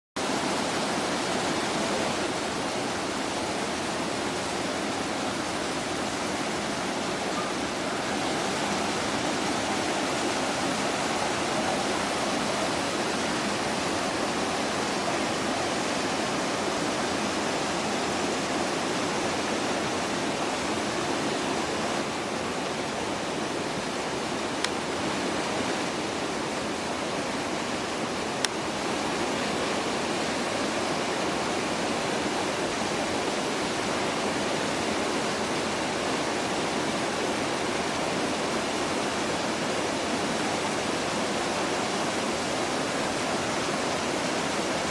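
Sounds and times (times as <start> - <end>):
waterfall roaring: 0.2 - 44.9.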